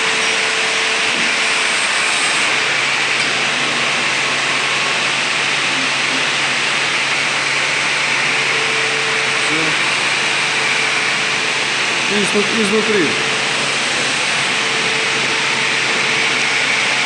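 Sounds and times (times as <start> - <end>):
machine motor hum: 1.3 - 17.0.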